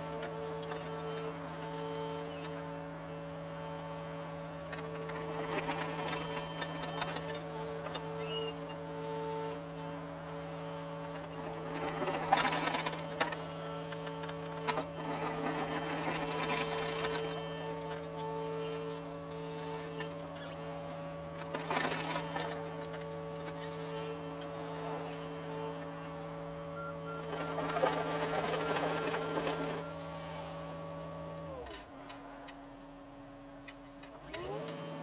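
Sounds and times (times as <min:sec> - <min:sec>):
excavator engine droning: 0:00.0 - 0:35.0.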